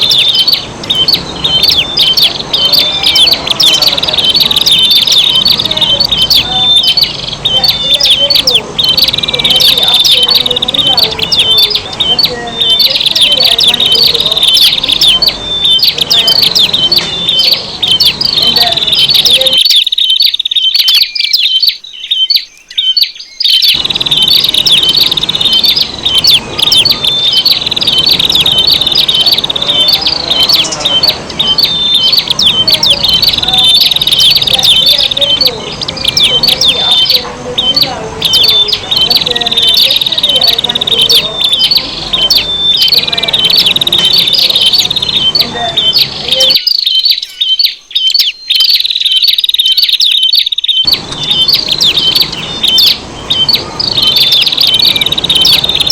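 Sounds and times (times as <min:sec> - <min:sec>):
birds chirping and trilling: 0:00.0 - 0:55.9.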